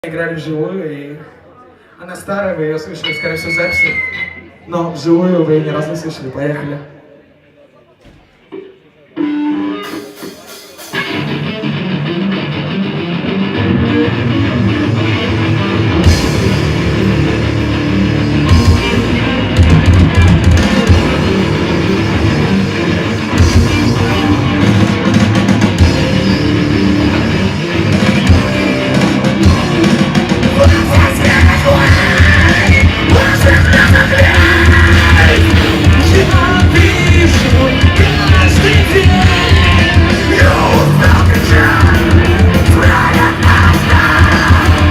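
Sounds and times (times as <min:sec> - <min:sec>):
live metal band playing: 0:08.5 - 0:44.9.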